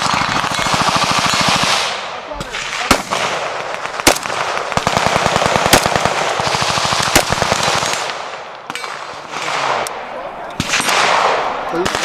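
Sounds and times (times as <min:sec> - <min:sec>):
echoing range noise: 0:00.0 - 0:12.0
gunshots: 0:00.0 - 0:12.0.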